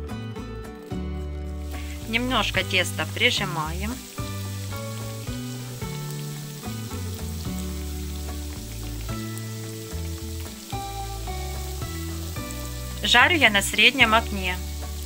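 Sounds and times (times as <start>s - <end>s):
background music: 0.0s - 15.0s
oil sizzling in a skillet: 0.8s - 15.0s.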